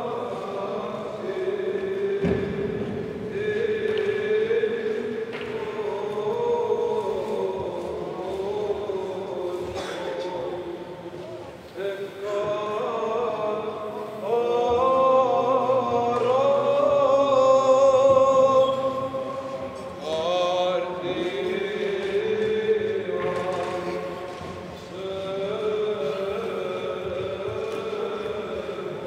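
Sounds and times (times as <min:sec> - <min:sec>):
men chanting a hymn: 0:00.0 - 0:29.0.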